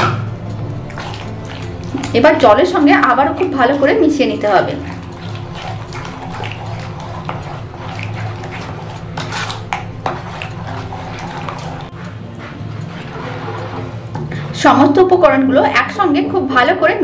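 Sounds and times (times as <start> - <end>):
spoon stirring wet batter: 0.0 - 15.7.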